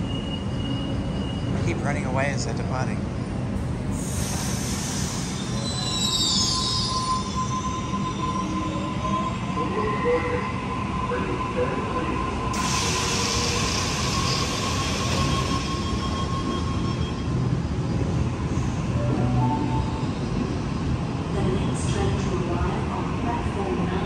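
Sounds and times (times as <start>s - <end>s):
train rumble and whine: 0.0s - 24.0s.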